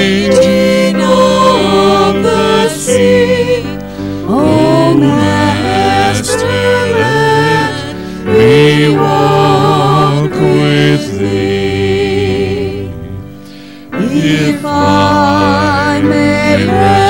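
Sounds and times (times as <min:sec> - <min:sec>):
hymn singing with instruments: 0:00.0 - 0:17.0.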